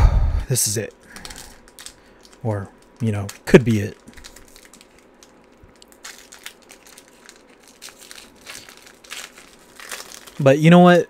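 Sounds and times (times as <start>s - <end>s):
foil wrapper crinkling: 1.1s - 11.0s.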